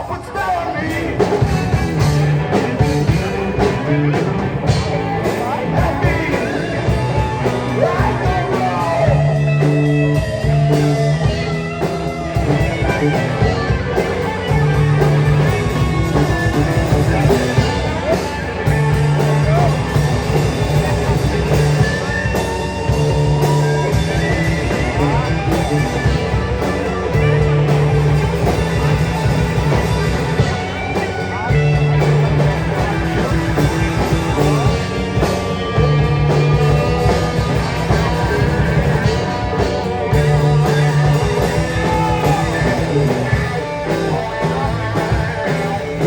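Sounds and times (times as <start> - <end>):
live rock band: 0.0 - 46.0.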